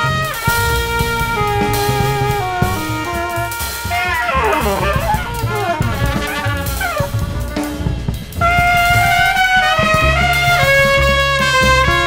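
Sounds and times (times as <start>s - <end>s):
drum kit: 0.0s - 12.0s
trumpet playing fast runs: 0.0s - 12.0s.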